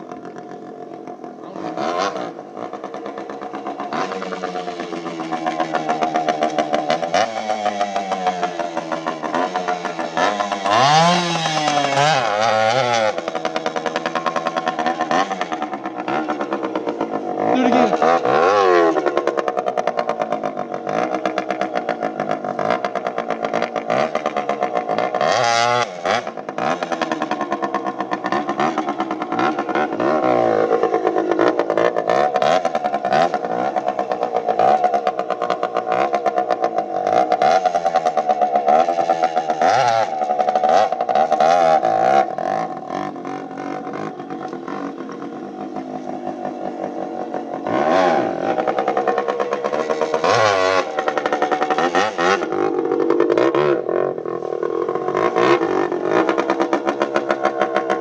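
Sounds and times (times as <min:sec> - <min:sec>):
exhaust popping and crackling: 0:00.0 - 0:58.0
pit bike engine revving: 0:00.0 - 0:58.0.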